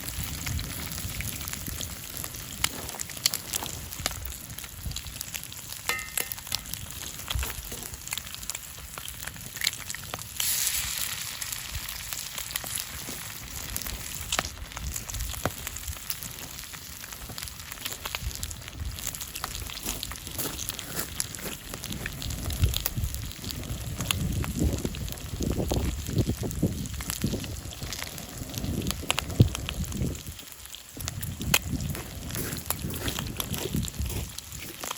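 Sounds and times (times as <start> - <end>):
food sizzling in oil: 0.0 - 34.9.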